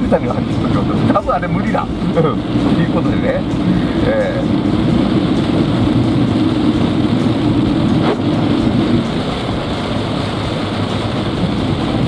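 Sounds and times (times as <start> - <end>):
heavy rain on car roof: 0.0 - 12.0
tyre noise on wet road: 0.0 - 12.0.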